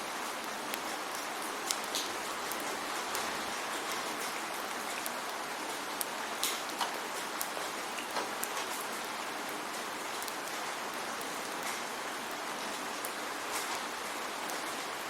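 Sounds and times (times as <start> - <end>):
raindrops ticking on a surface: 0.0 - 15.0
steady rain hiss: 0.0 - 15.0.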